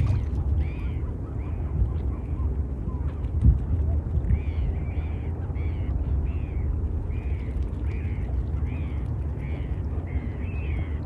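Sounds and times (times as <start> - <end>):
low rumble: 0.0 - 11.0
waterbirds calling: 0.0 - 11.0.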